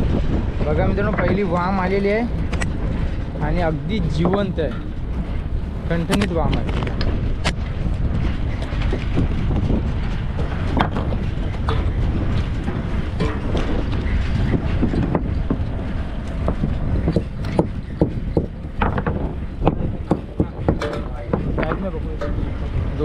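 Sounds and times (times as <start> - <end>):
boat engine rumbling: 0.0 - 23.0
knocks and clatter of net hauling: 0.0 - 23.0.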